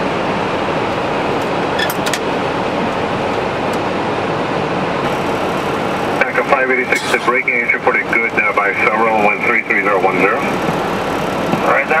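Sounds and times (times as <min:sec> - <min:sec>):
steady cockpit rushing noise: 0:00.0 - 0:12.0.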